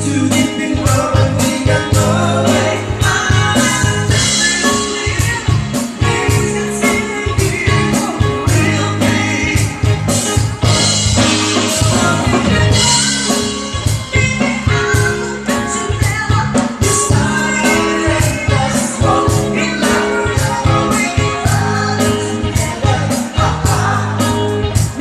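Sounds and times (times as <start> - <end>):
live pop-rock band: 0.0 - 25.0
person singing: 0.0 - 25.0.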